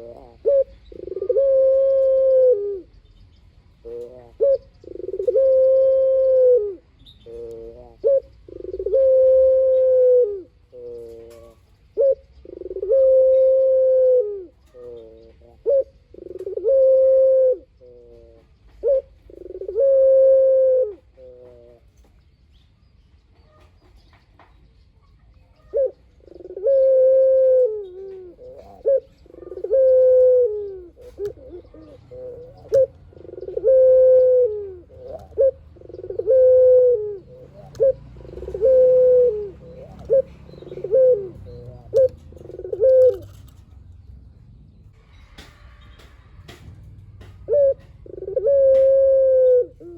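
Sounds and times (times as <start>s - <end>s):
dove cooing: 0.0s - 22.1s, 25.5s - 43.9s, 47.2s - 49.9s.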